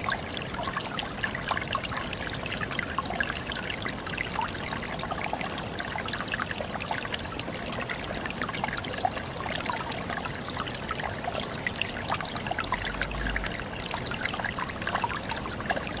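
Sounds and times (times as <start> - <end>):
small bubbling plinks: 0.0 - 16.0
water trickling and burbling: 0.0 - 16.0.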